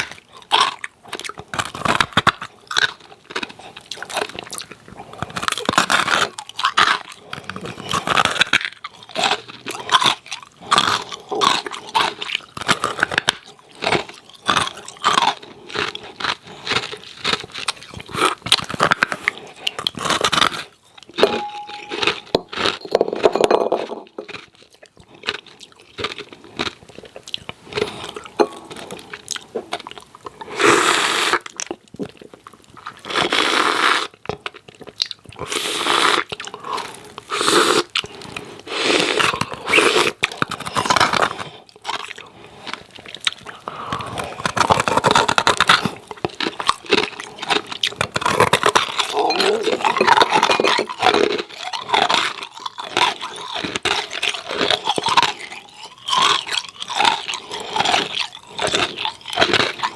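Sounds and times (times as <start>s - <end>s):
ice cubes crunched and chewed: 0.0s - 59.9s.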